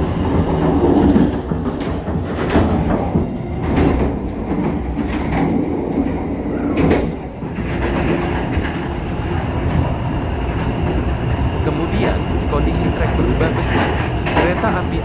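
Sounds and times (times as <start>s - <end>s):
train wheels rumbling on rails: 0.0s - 15.0s
wheels clacking over track joints: 0.0s - 15.0s.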